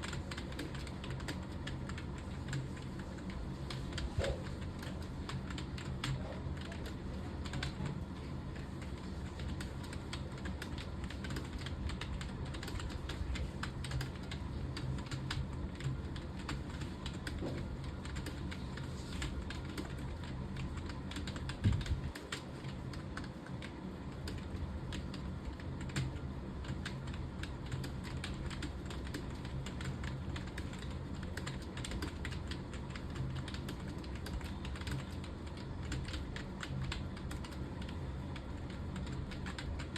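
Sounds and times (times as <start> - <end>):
fast typing on keyboard: 0.0 - 39.9
steady low hum: 0.0 - 39.9.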